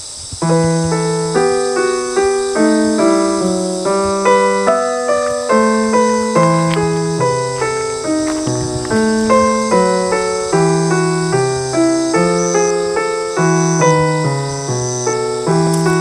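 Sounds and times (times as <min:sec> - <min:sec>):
piano music: 0:00.4 - 0:16.0.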